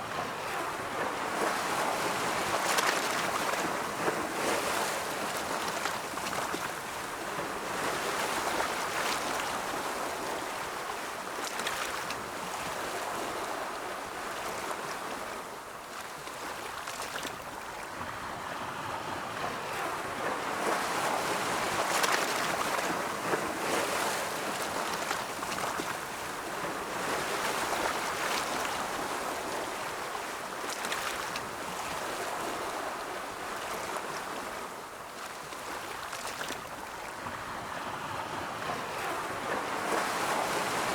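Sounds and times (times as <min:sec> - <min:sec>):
ocean waves washing ashore: 0:00.0 - 0:40.9.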